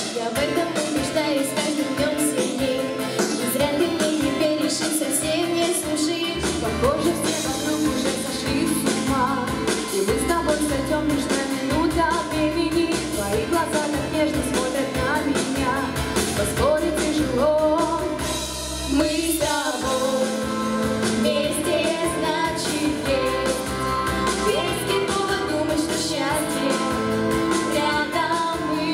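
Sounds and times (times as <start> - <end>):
two girls singing a duet: 0.0 - 18.2, 18.9 - 28.9
instrumental accompaniment: 0.0 - 28.9.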